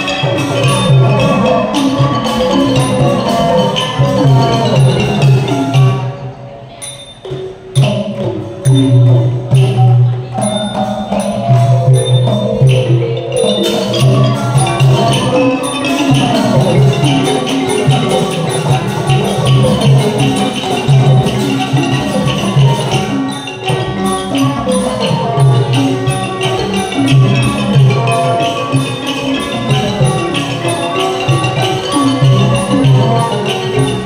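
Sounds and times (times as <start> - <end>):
xylophone: 0.0 - 34.0.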